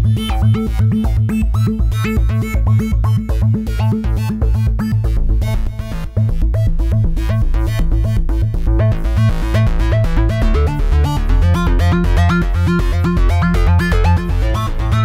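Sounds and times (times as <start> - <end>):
fast synthesizer bass sequence: 0.0 - 15.0.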